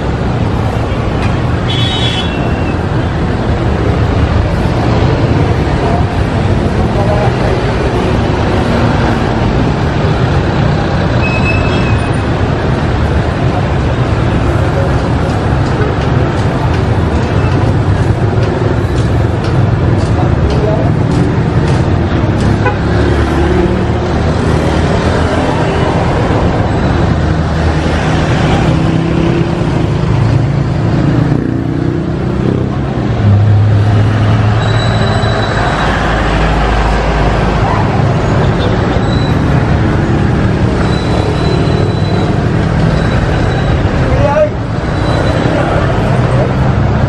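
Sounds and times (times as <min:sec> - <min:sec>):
traffic engines rumbling: 0:00.0 - 0:47.0.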